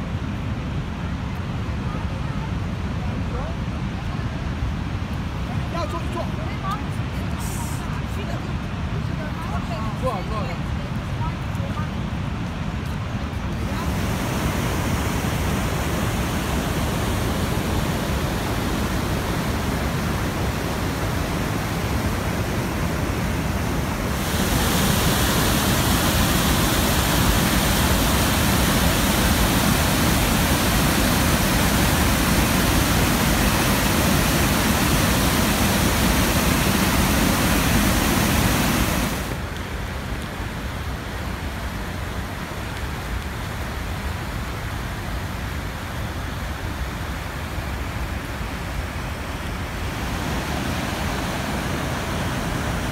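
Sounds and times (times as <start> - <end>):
river rapids rushing over rocks: 5.2 - 52.9.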